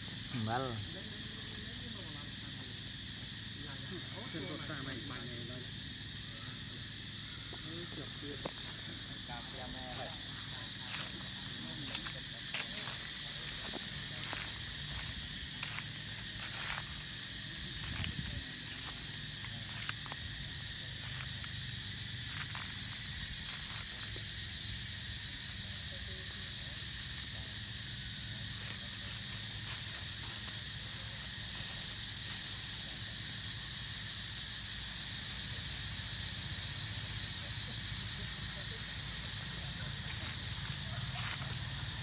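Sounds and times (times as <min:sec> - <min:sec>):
forest insects droning: 0:00.0 - 0:42.0.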